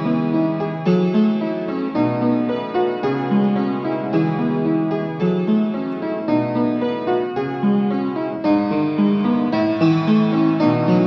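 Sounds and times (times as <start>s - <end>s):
keyboard melody: 0.0s - 11.0s.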